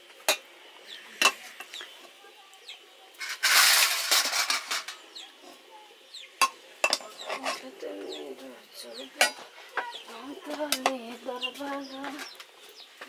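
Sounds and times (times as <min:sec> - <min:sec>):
birds chirping: 0:00.7 - 0:03.2, 0:04.9 - 0:13.0.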